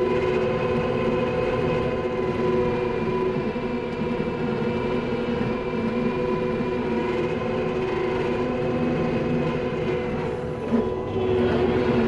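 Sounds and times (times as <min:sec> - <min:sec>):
engine and hydraulics whining: 0:00.0 - 0:12.0.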